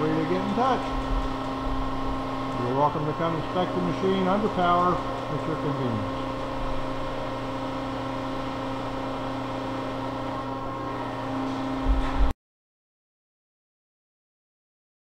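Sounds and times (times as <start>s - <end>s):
grinding machine humming: 0.0s - 12.3s.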